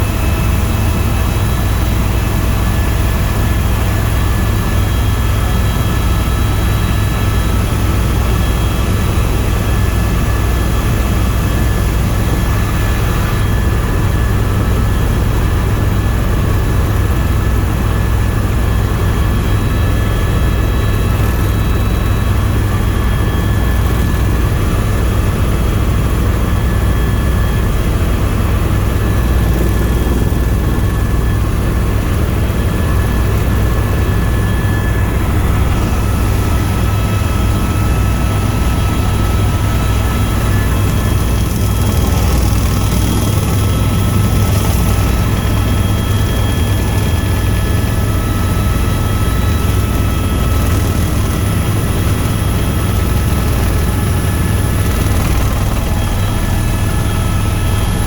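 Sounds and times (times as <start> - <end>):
helicopter rotor and engine drone: 0.0 - 58.0
high turbine whine: 0.0 - 58.0.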